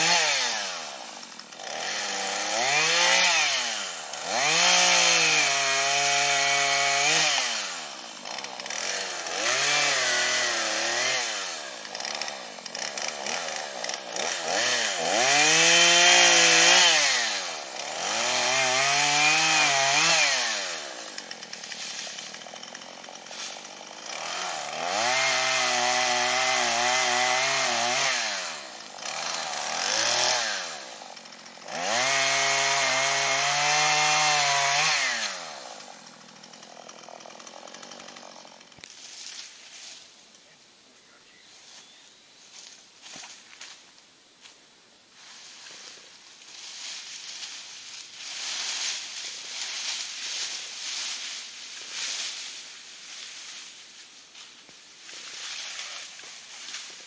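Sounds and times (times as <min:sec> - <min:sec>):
chainsaw cutting wood: 0:00.0 - 0:40.6, 0:42.5 - 0:57.0.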